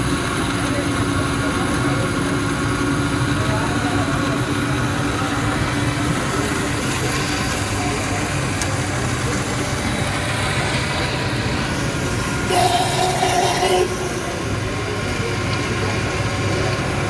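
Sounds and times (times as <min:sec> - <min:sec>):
engine-like drone: 0:00.0 - 0:17.0.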